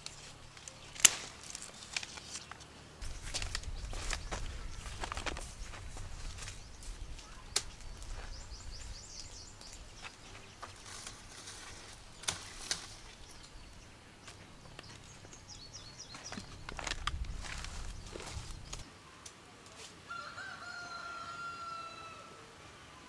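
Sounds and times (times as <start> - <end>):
low steady background noise: 0.0 - 23.0.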